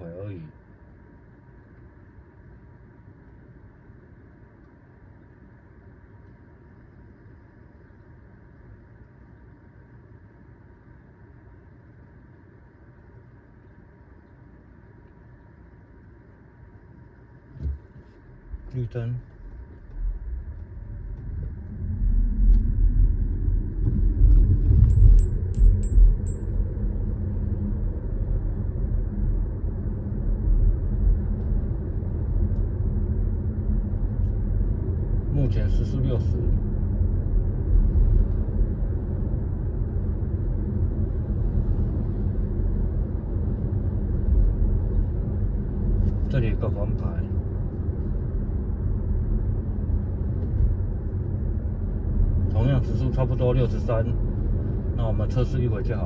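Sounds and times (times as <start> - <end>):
road and tyre rumble in car cabin: 0.0 - 56.0.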